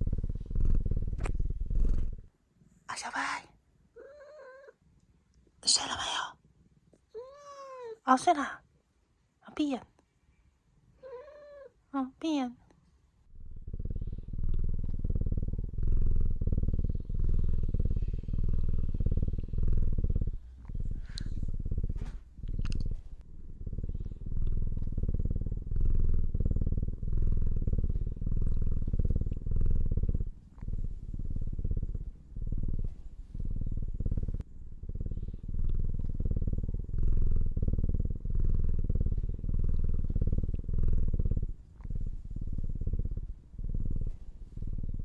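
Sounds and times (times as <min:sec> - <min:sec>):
cat purring: 0:00.0 - 0:08.6, 0:10.7 - 0:11.9, 0:13.2 - 0:45.0.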